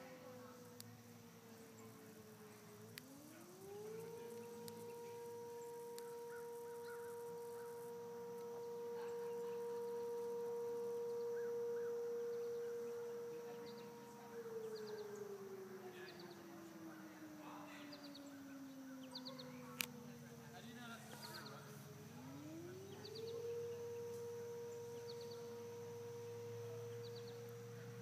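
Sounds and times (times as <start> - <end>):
air-raid siren wailing: 0.0 - 28.0.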